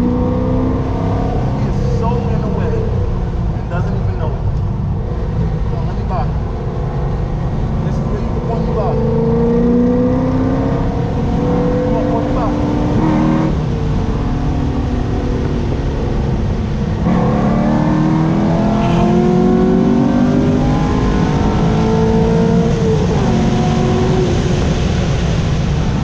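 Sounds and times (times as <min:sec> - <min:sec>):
car engine accelerating: 0:00.0 - 0:26.0
road and wind noise: 0:00.0 - 0:26.0.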